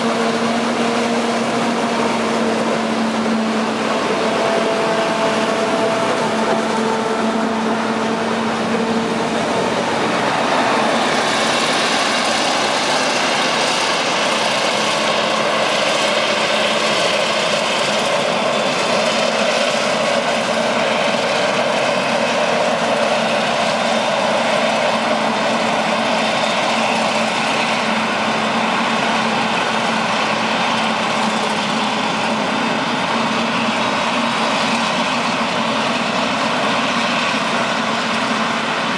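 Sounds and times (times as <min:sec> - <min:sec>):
dense rushing machine noise: 0:00.0 - 0:38.9
engine hum: 0:00.0 - 0:38.9.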